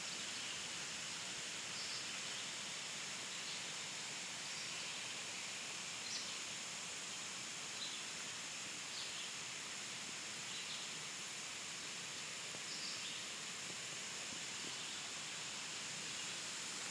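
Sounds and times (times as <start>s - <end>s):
steady outdoor hiss: 0.0s - 16.9s.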